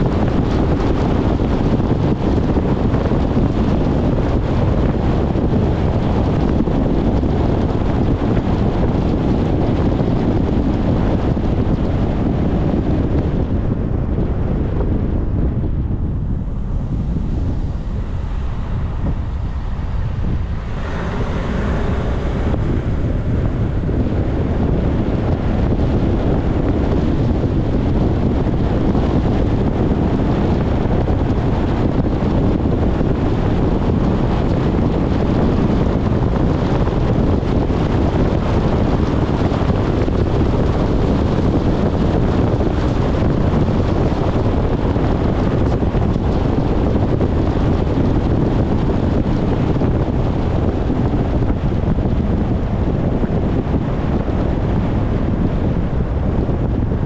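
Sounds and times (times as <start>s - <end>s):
vehicle road and engine rumble: 0.0s - 57.0s
wind buffeting microphone: 0.0s - 57.0s.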